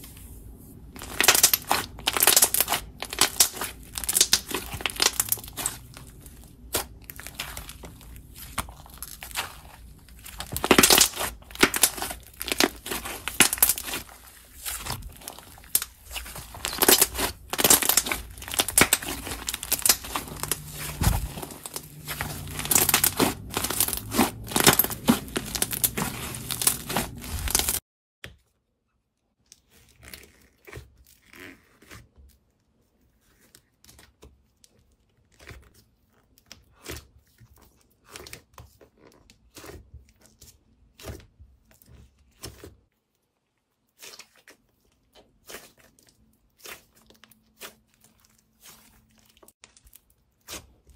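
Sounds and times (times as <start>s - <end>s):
soft clay squishing: 0.0s - 50.9s.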